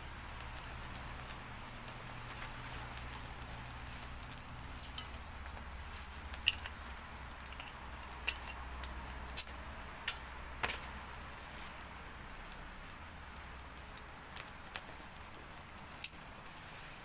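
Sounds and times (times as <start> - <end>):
rain pattering: 0.0 - 17.0
sharp pops of fire: 0.0 - 17.0
wood fire crackling: 0.0 - 17.0.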